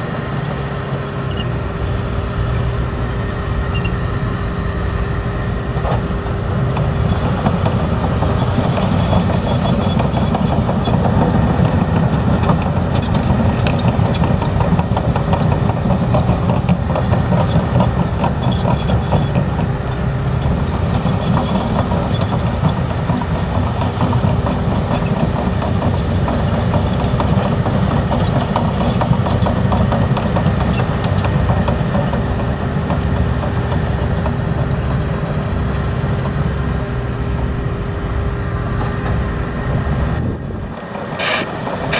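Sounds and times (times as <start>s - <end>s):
large engine running: 0.0s - 41.9s.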